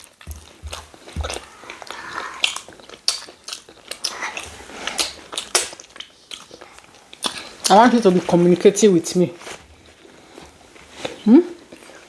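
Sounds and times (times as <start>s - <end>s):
person chewing food: 0.0s - 8.1s, 9.8s - 12.0s.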